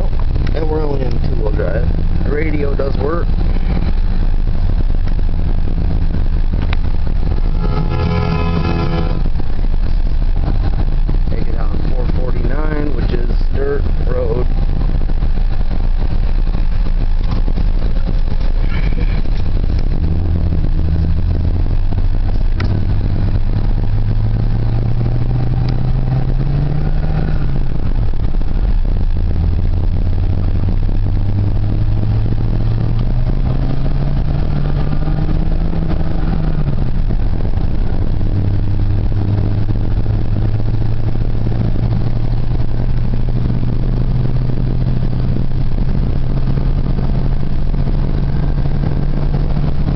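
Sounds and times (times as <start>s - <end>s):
low road rumble: 0.0s - 49.9s
truck engine accelerating through gears: 0.0s - 49.9s.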